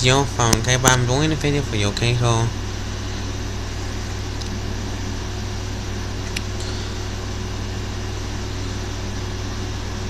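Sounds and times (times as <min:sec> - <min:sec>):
low mechanical hum with hiss: 0:00.0 - 0:10.0.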